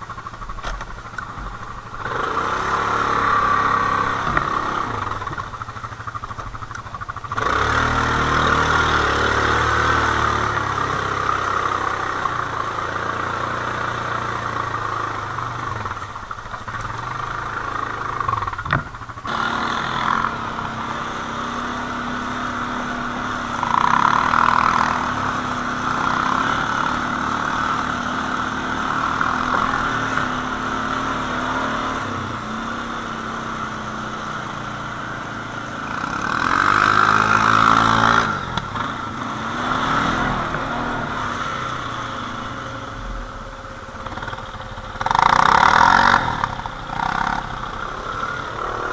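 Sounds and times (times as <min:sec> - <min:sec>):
quad bike engines revving: 0:00.0 - 0:48.9.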